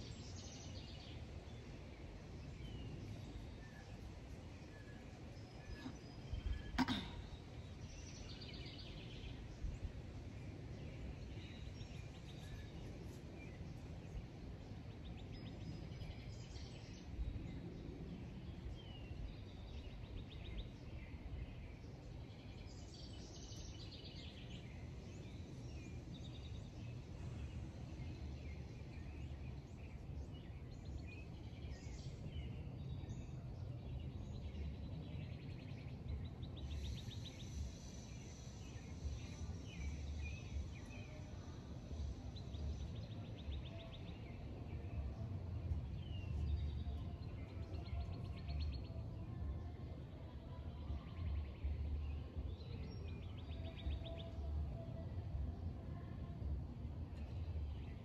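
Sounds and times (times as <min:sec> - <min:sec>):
low background rumble: 0:00.0 - 0:58.0.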